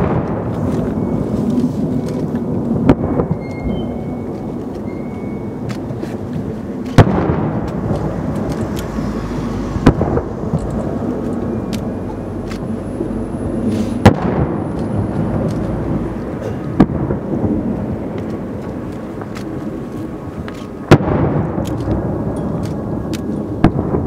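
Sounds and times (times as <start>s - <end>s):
firework shells booming: 0.0s - 4.8s, 5.5s - 8.8s, 9.7s - 11.5s, 13.6s - 24.0s.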